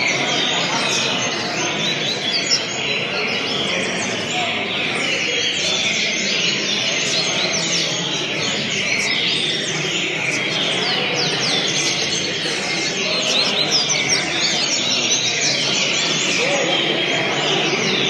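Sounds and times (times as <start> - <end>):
other birds chirping: 0.0 - 18.0
steady background noise: 0.0 - 18.0
bird singing high chirps: 0.1 - 18.0.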